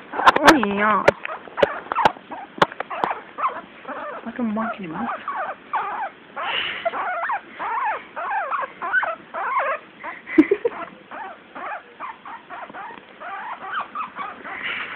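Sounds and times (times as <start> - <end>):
guinea pig squeaking: 0.0 - 9.8, 10.7 - 14.8.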